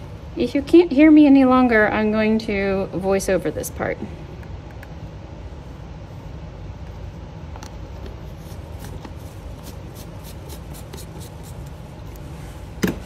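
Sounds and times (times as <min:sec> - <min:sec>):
heating system humming: 0:00.0 - 0:13.0.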